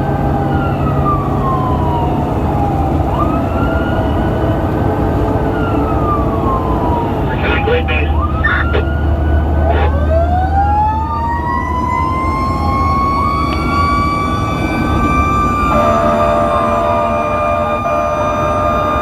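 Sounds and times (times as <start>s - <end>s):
fire engine sirens wailing: 0.0s - 19.0s
low engine drone: 0.0s - 19.0s.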